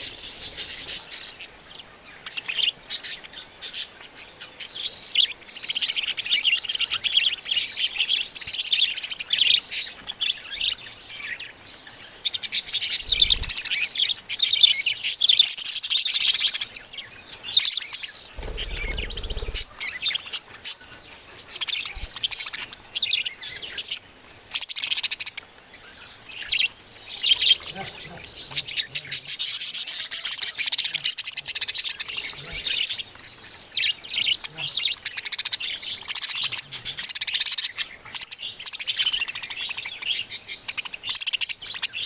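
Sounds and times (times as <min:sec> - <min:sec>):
budgie chicks chirping: 0:00.0 - 0:42.0.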